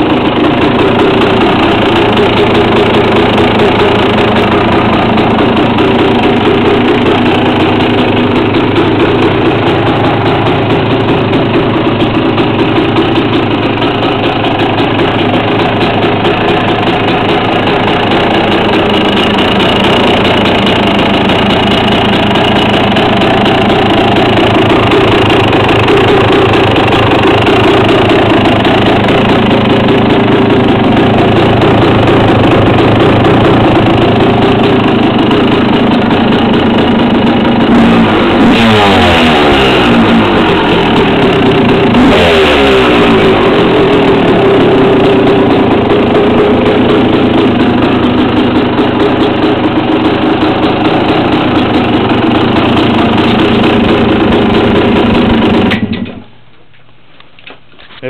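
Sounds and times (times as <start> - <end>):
two-stroke engine idling: 0.0 - 57.5.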